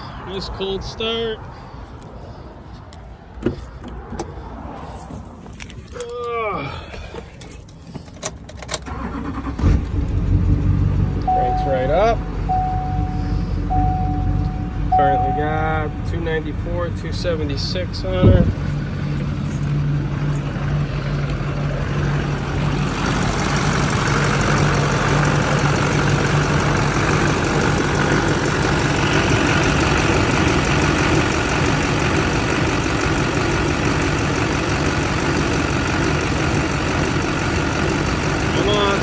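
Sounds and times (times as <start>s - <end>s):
diesel engine idling: 0.0s - 4.6s, 8.9s - 39.0s.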